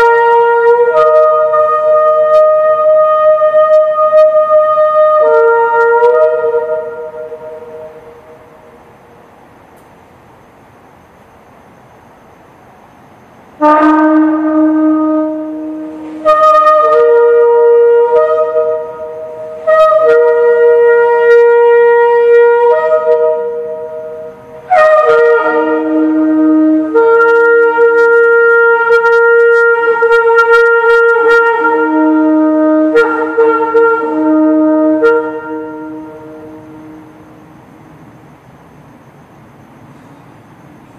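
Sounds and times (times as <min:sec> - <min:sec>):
shofar blasts: 0:00.0 - 0:08.9, 0:13.6 - 0:37.7.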